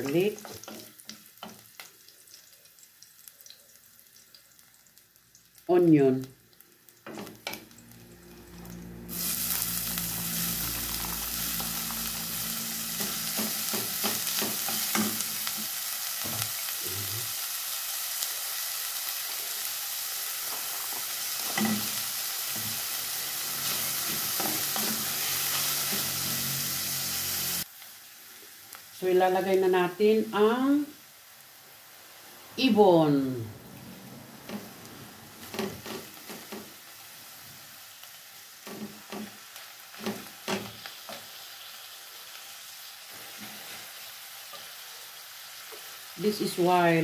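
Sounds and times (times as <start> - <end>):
onions sizzling in oil: 0.0 - 47.0.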